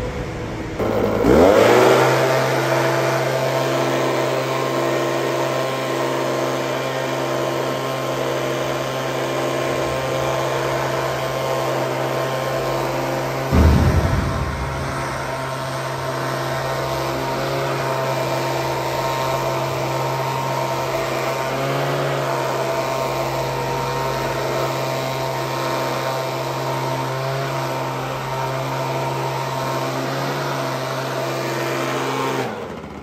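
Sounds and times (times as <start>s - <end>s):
leaf blower running: 0.1s - 33.0s.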